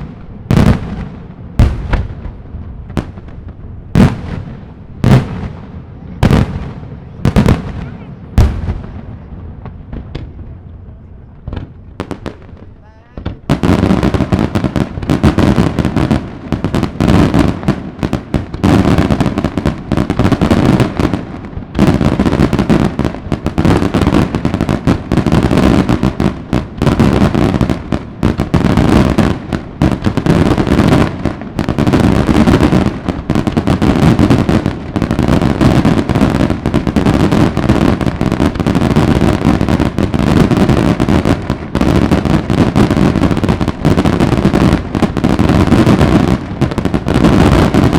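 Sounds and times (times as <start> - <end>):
fireworks banging: 0.0 - 47.9.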